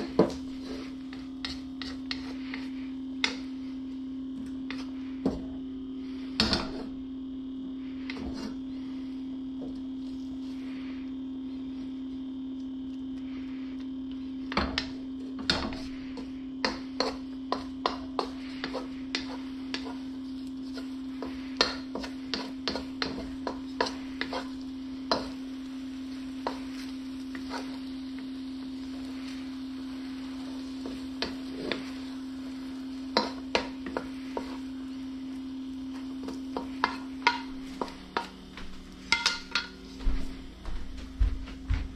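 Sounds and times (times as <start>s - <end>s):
spatula scraping wok: 0.0s - 7.0s, 7.7s - 11.8s, 13.2s - 40.0s
steady low hum: 0.0s - 41.9s.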